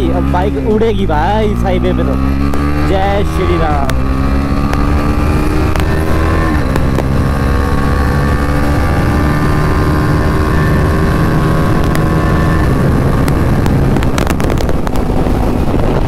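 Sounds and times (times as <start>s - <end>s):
motorcycle engine running hard: 0.0s - 16.0s
wind and road noise: 0.0s - 16.0s.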